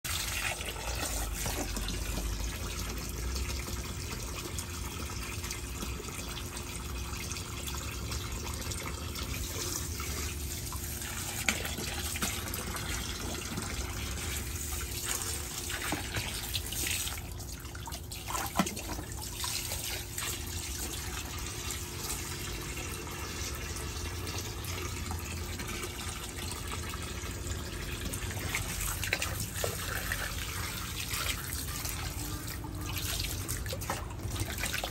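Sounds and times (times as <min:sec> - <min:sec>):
hose water pouring into pool: 0:00.0 - 0:34.9.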